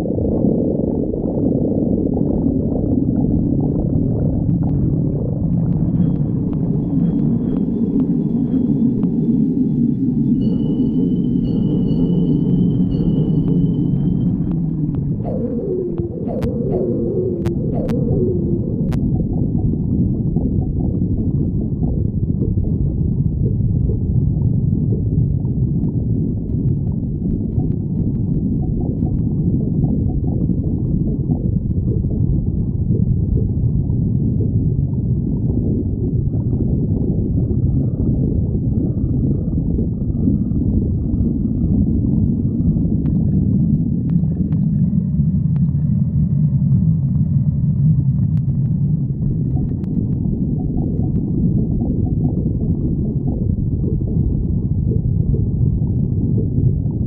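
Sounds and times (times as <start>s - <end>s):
stomach growling and gurgling: 0.0s - 57.0s.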